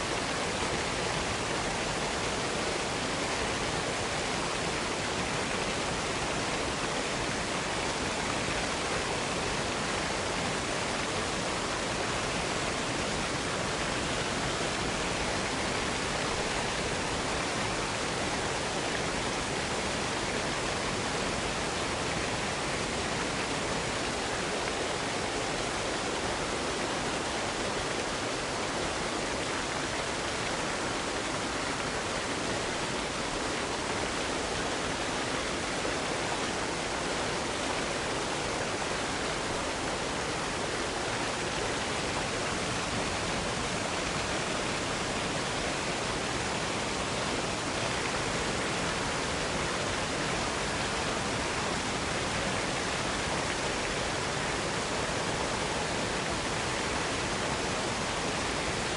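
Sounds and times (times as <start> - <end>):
waterfall rushing into pool: 0.0 - 58.9.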